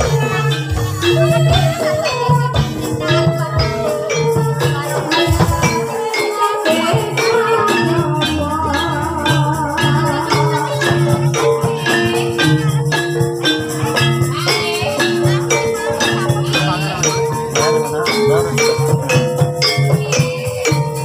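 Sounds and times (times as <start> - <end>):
drum beat: 0.0 - 21.0
gamelan struck melody: 0.0 - 21.0
jingling percussion: 0.0 - 21.0.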